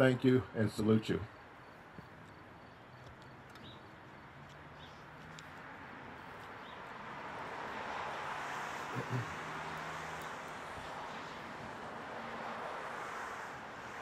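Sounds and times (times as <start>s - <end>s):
passing road vehicle: 1.3s - 14.0s.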